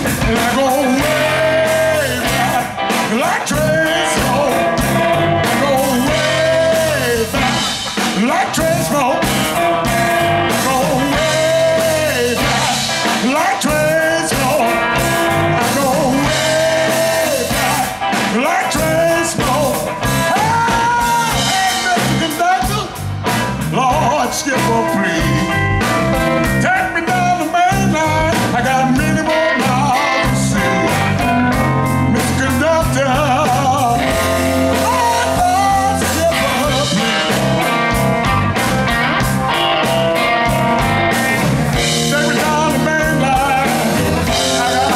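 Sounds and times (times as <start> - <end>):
bass line: 0.0 - 44.9
drum beat: 0.0 - 44.9
sliding bending lead guitar notes: 0.0 - 44.9.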